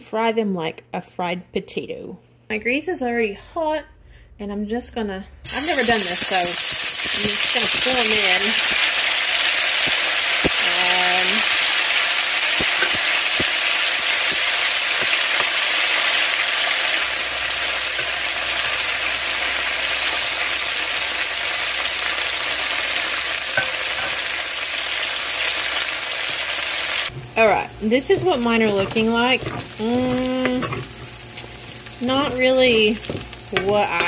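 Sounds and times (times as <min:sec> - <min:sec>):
potatoes sizzling in grease: 0:05.5 - 0:34.0.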